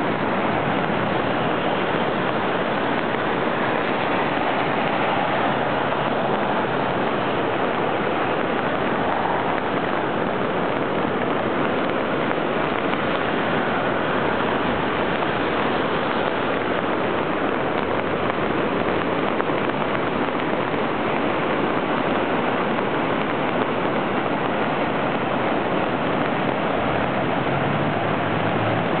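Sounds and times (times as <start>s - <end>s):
cars passing on wet street: 0.0s - 29.0s
rushing storm runoff: 0.0s - 29.0s.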